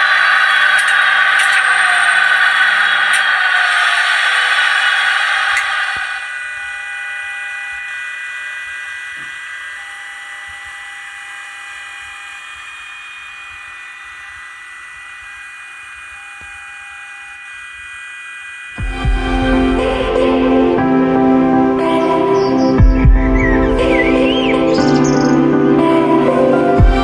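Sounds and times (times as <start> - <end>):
electric locomotive whine: 0.0 - 27.0.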